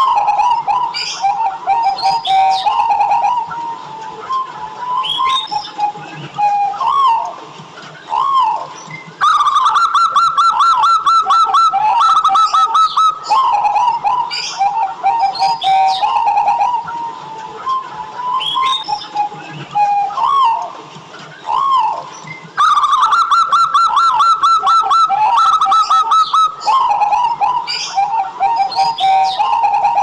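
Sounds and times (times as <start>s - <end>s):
dove cooing: 0.0s - 7.3s, 8.1s - 20.7s, 21.4s - 30.0s.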